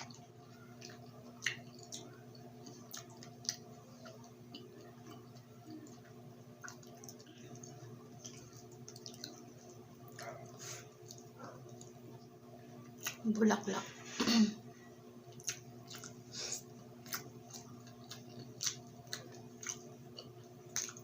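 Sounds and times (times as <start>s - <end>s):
person chewing food: 0.0s - 13.2s, 15.2s - 21.0s
steady low hum: 0.0s - 21.0s.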